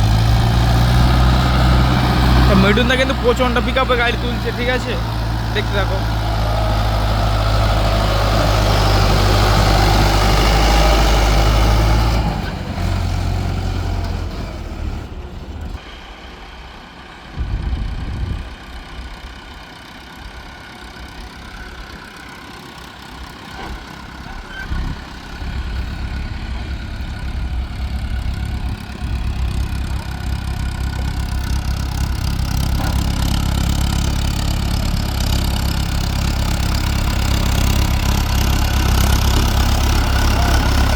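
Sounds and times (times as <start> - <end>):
diesel tractor engine under load: 0.0 - 40.9
low engine rumbles: 0.0 - 40.9.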